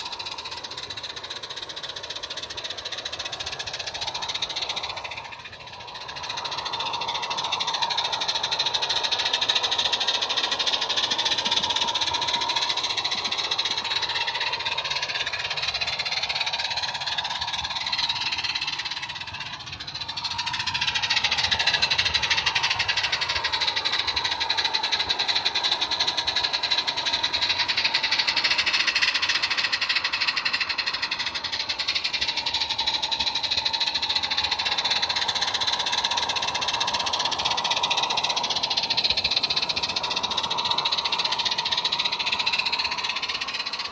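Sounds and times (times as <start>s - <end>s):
model train running on track: 0.0s - 43.9s.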